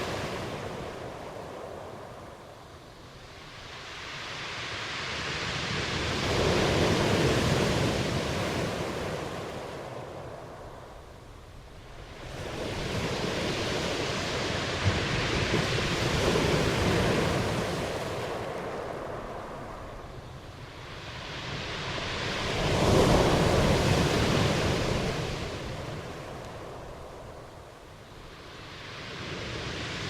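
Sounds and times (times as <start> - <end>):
ocean waves breaking: 0.0 - 2.5, 3.4 - 10.8, 11.8 - 30.0.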